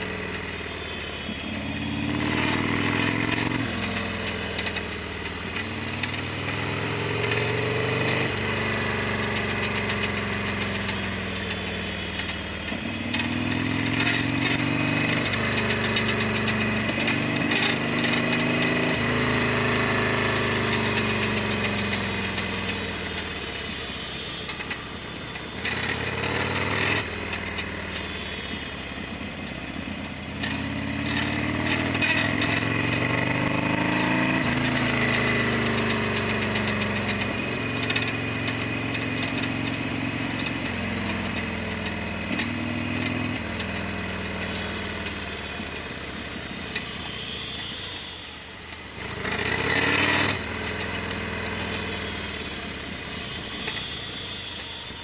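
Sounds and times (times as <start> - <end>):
motorcycle engine under way: 0.0 - 55.0.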